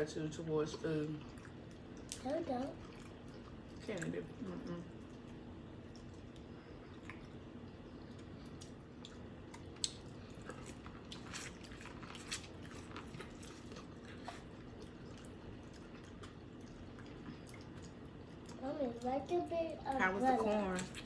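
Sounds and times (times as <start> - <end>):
chewing and wet squishing: 0.0 - 21.0.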